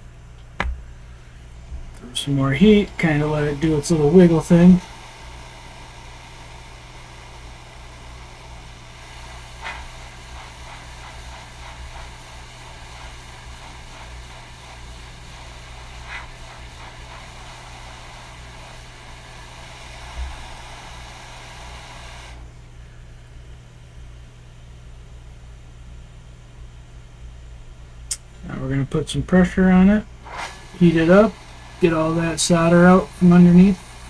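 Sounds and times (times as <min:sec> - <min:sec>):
hot air blower hissing: 0:00.0 - 0:24.3, 0:28.1 - 0:34.0.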